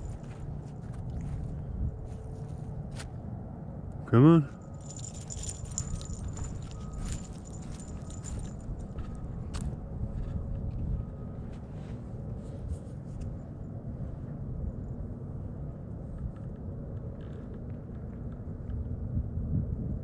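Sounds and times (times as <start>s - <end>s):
wind rumbling on microphone: 0.0s - 3.5s, 4.8s - 20.0s.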